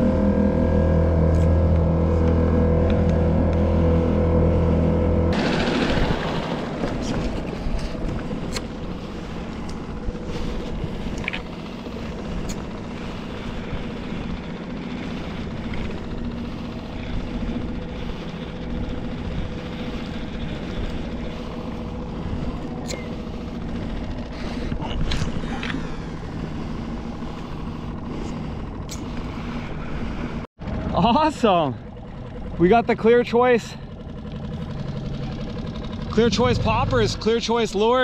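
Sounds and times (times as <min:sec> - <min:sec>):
outboard motor running: 0:00.0 - 0:38.0.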